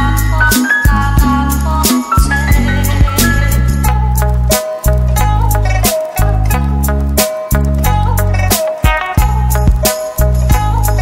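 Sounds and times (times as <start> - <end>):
song with heavy bass and drums: 0.0 - 11.0.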